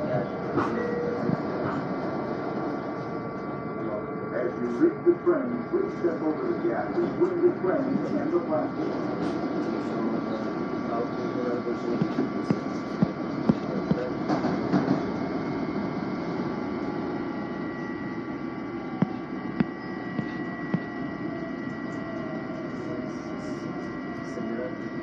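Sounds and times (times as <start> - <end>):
electric train rumbling inside: 0.0 - 25.0.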